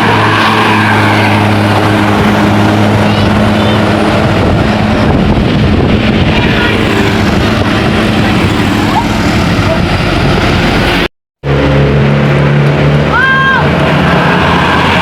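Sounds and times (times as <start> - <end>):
bus diesel engine running: 0.0 - 15.0
engine hum: 0.0 - 15.0
road and wind noise: 0.0 - 15.0.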